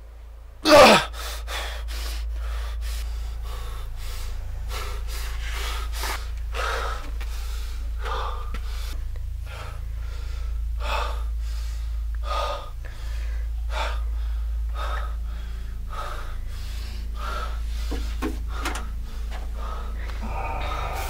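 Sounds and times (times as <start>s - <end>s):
steady low hum: 0.0s - 21.0s
man gasping heavily: 0.7s - 21.0s.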